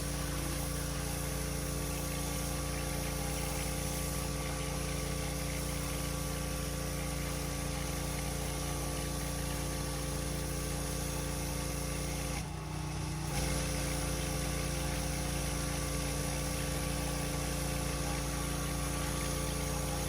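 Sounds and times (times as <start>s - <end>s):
pressure washer engine and pump: 0.0s - 20.0s
water jet hissing: 0.0s - 20.0s.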